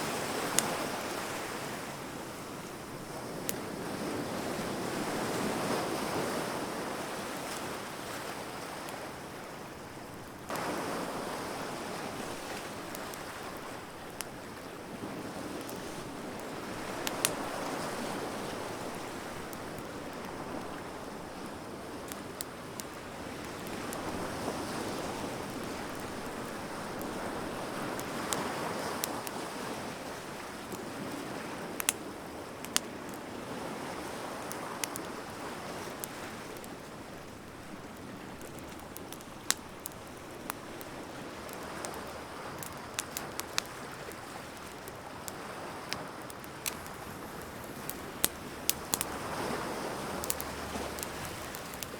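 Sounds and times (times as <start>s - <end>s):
wood fire crackling: 0.0s - 6.3s, 7.0s - 51.9s.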